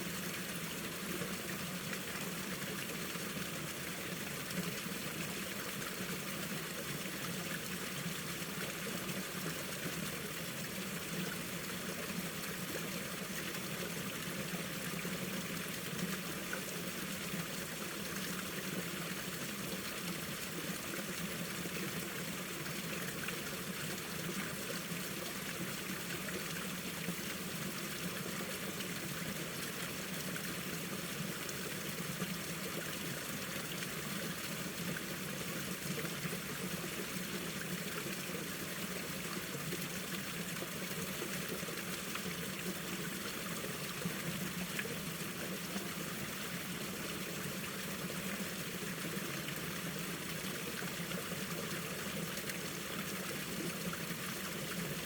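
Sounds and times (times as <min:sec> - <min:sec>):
stream water flowing over rocks: 0:00.0 - 0:55.0.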